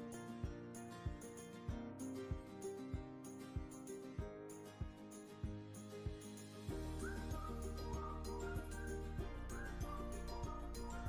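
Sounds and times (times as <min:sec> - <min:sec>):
soft background music with beat: 0:00.0 - 0:11.0.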